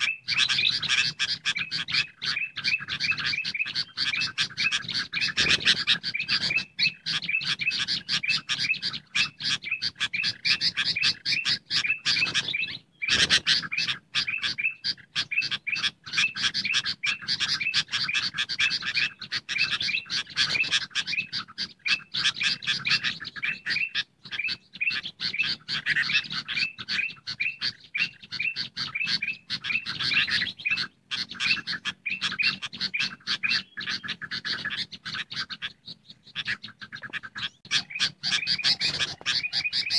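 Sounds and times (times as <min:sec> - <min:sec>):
chorus of bird chirps: 0:00.0 - 0:39.9.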